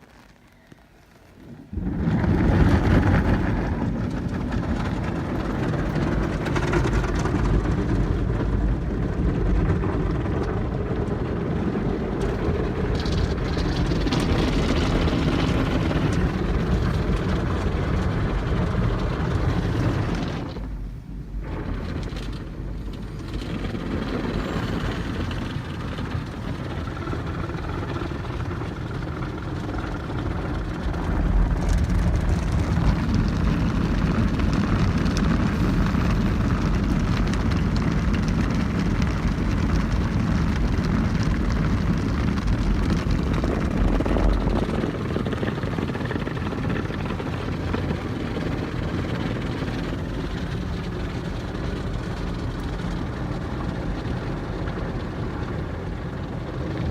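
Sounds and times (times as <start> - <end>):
car wash water and machinery: 0.0 - 56.9.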